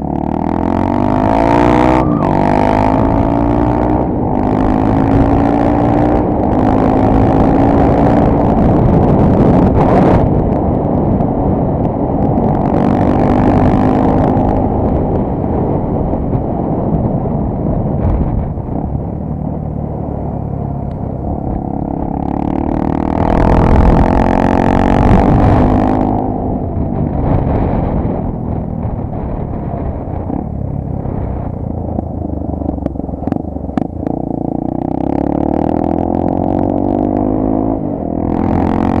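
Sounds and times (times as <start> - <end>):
motorcycle engine revving: 0.0 - 16.0, 18.0 - 39.0.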